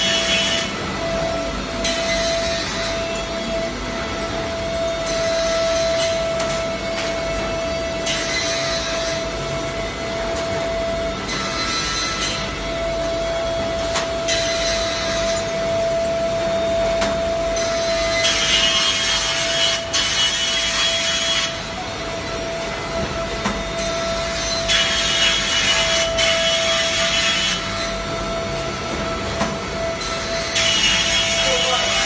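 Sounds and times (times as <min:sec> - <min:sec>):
machine motor whine: 0:00.0 - 0:32.0.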